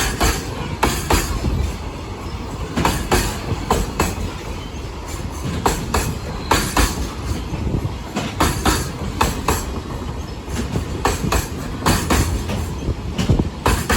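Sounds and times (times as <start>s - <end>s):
train wheels clattering over rail joints: 0.0s - 13.9s.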